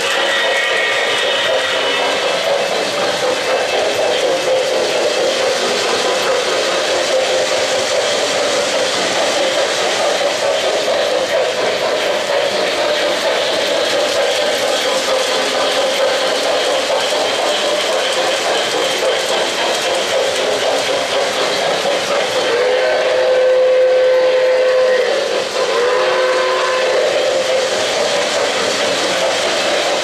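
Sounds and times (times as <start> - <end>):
model trains whirring on rails: 0.0 - 30.0.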